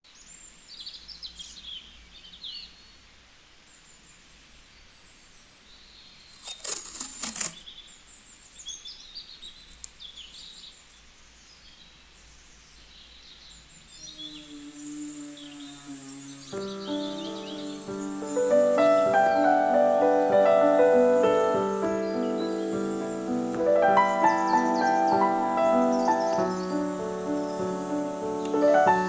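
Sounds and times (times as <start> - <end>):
small birds chirping: 0.1 - 29.0.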